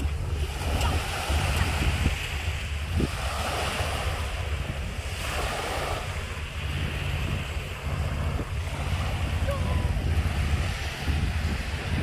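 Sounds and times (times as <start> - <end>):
small waves lapping on sand: 0.0 - 12.0
wind buffeting microphone: 0.0 - 12.0.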